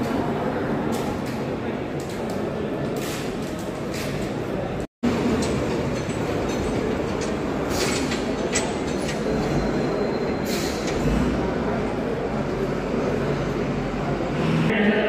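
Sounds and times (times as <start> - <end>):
rumbling background din: 0.0 - 15.0.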